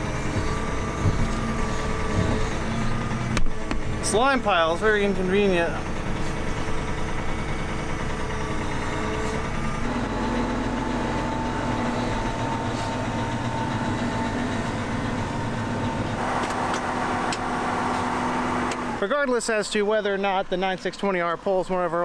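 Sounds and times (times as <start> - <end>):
steady higher tone: 0.0 - 19.2
tractor diesel engine running: 0.0 - 22.0.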